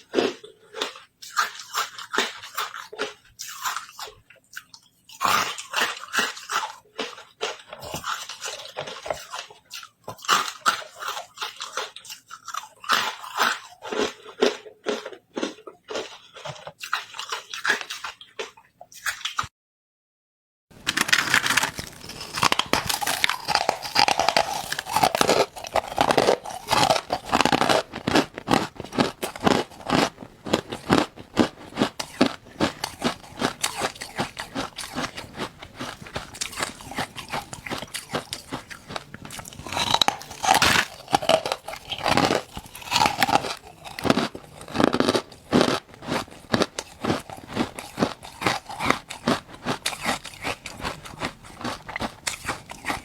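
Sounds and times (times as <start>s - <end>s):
chewing crunchy ice: 0.0s - 19.5s, 20.8s - 53.0s.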